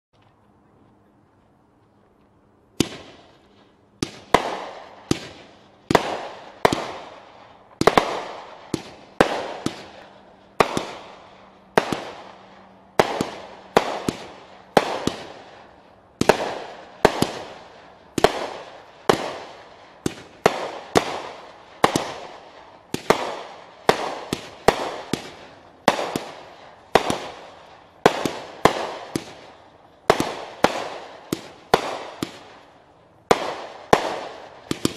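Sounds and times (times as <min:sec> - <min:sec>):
firework cake firing shots: 0:02.8 - 0:34.9.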